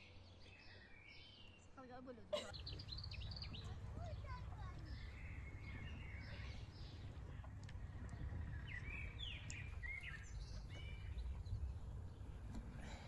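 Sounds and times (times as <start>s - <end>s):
songbirds chirping: 0.0s - 13.0s
low outdoor rumble: 2.4s - 13.0s.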